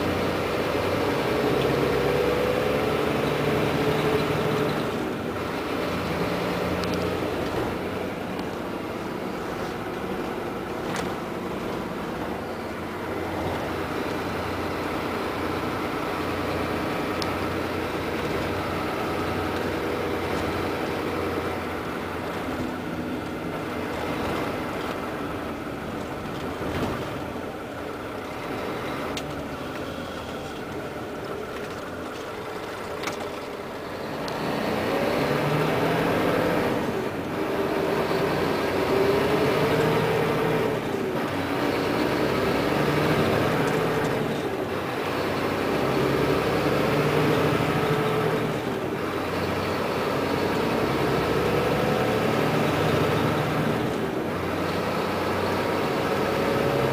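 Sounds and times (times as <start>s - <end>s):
diesel coach engine running: 0.0s - 56.9s.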